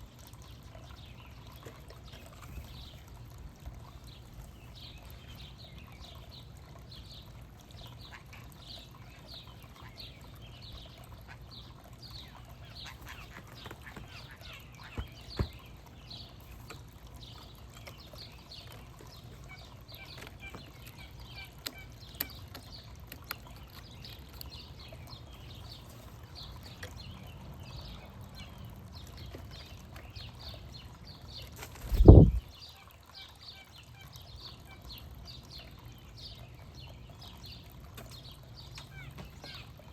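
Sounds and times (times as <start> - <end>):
birds chirping: 0.1 - 39.9.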